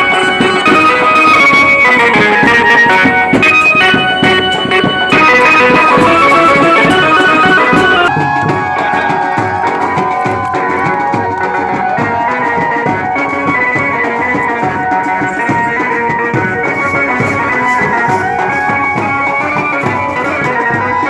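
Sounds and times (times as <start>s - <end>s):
instrumental music with drum beat: 0.0s - 21.0s
wavering melody: 0.0s - 21.0s.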